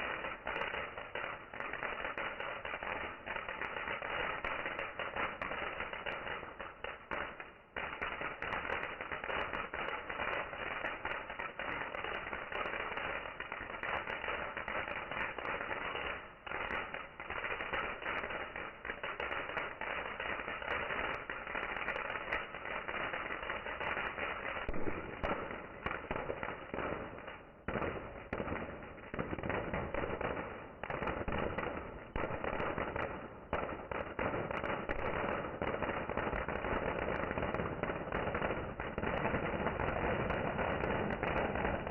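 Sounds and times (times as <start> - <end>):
fireworks crackling and popping: 0.0 - 41.9.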